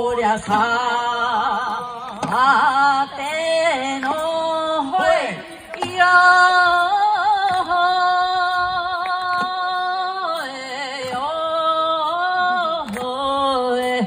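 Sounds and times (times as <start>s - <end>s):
person singing folk ballad: 0.0s - 14.0s.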